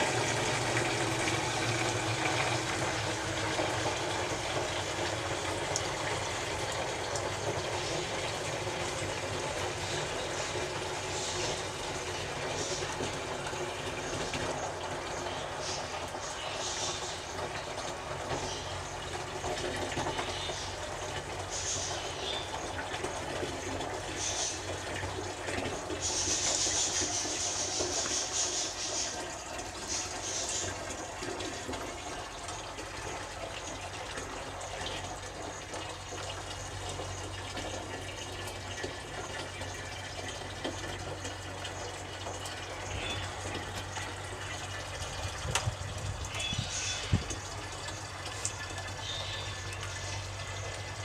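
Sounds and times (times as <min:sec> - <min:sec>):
water running through tubing: 0:00.0 - 0:51.0.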